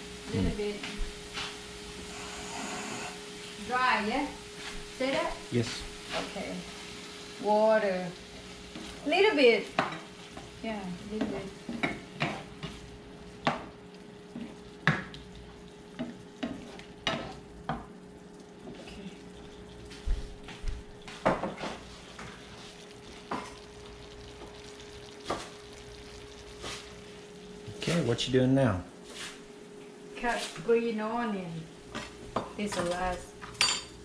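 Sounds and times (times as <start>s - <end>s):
light sizzle: 0.0s - 34.0s.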